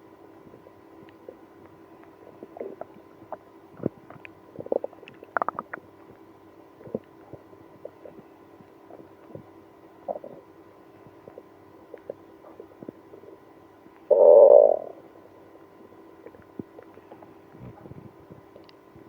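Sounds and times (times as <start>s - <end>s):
stomach gurgling: 0.4s - 13.5s, 15.8s - 19.0s.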